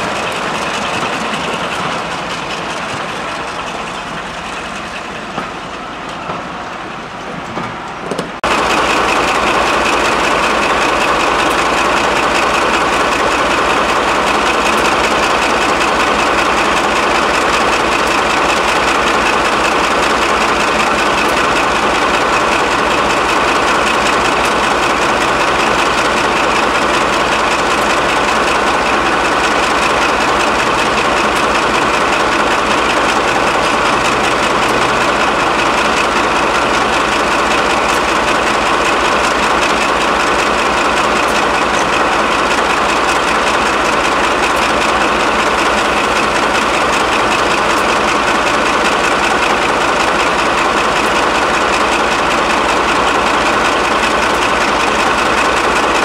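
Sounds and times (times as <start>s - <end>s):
diesel locomotive idling: 0.0s - 56.0s
second locomotive ticking over: 0.0s - 56.0s.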